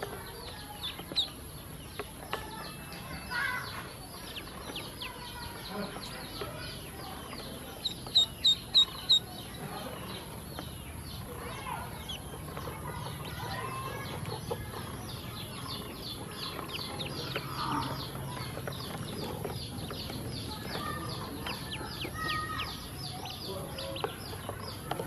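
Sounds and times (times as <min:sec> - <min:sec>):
ducklings peeping: 0:00.0 - 0:25.0.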